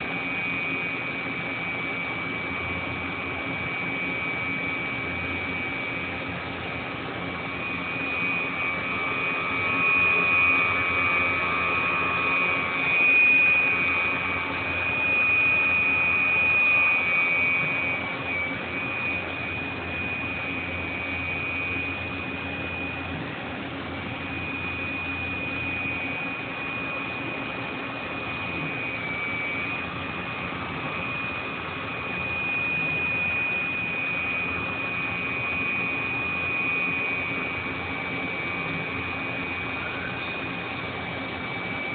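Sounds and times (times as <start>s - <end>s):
machining center humming and whining: 0.0s - 41.9s.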